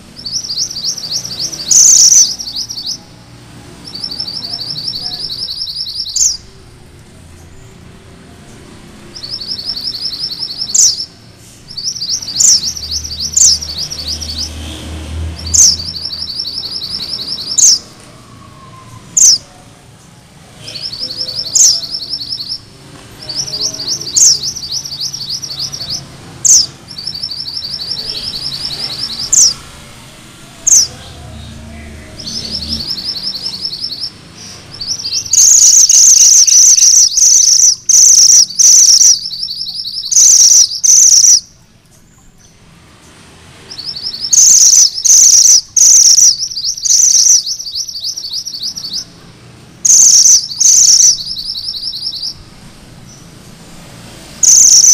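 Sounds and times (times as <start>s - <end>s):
bird whistled song and trills: 0.0s - 3.1s, 3.8s - 6.6s, 9.0s - 14.7s, 15.4s - 19.5s, 20.6s - 29.7s, 30.6s - 42.6s, 43.7s - 49.2s, 49.8s - 53.4s, 54.4s - 54.9s.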